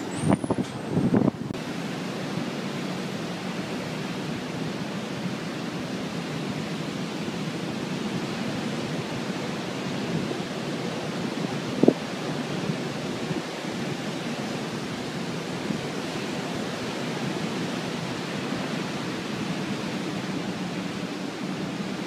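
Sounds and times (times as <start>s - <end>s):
hurricane wind and water rushing: 0.0s - 22.0s.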